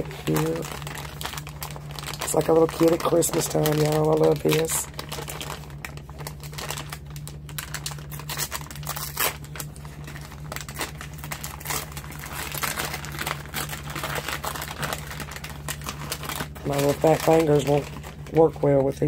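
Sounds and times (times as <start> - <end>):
low hum: 0.0 - 19.0
plastic packaging crinkling: 0.0 - 19.0.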